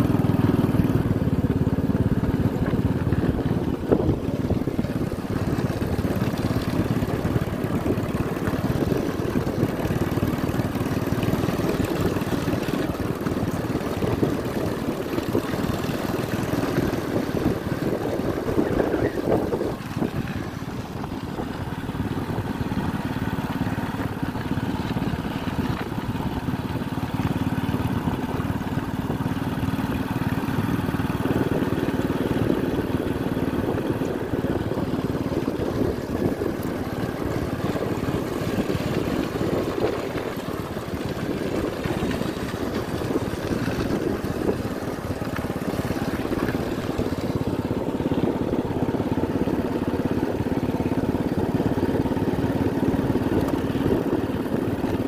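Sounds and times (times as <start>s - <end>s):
motorcycle engine running: 0.0s - 55.0s
rattling and bumping on dirt track: 0.0s - 55.0s.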